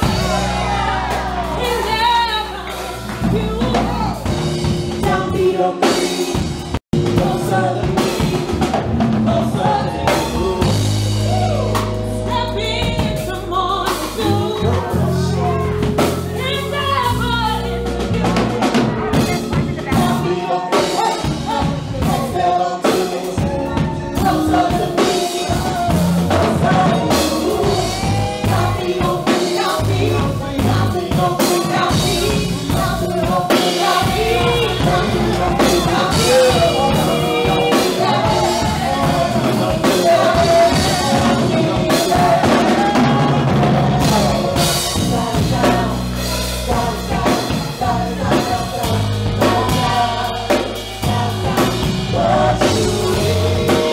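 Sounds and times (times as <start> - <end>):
drum kit: 0.0 - 53.9
singers singing together: 0.0 - 53.9.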